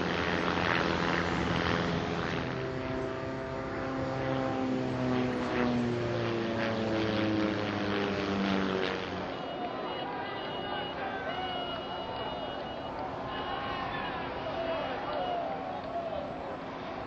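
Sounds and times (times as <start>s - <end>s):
propeller airplane flying past: 0.0s - 17.0s.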